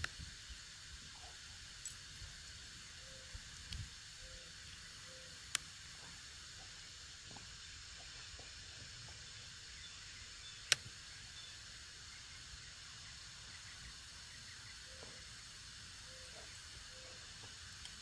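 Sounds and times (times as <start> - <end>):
faint outdoor background hiss: 0.0 - 18.0.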